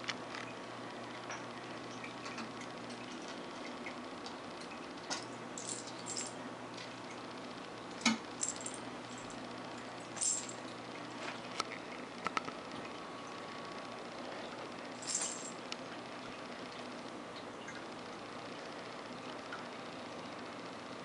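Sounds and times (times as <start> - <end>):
aquarium filter humming: 0.0 - 21.0.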